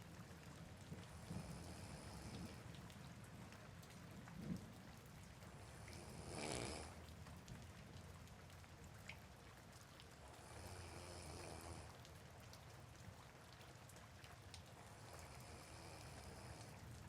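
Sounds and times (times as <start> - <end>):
soft rain falling: 0.0 - 17.0.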